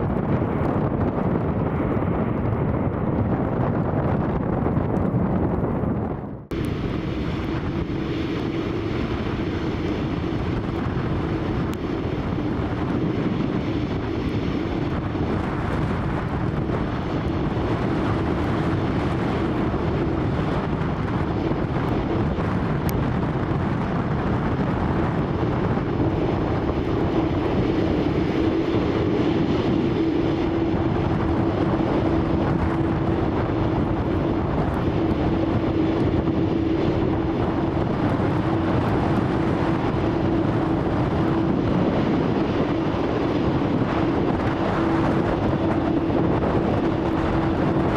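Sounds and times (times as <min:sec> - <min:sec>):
jet engines rushing: 0:00.0 - 0:47.9
wind on microphone: 0:00.0 - 0:47.9.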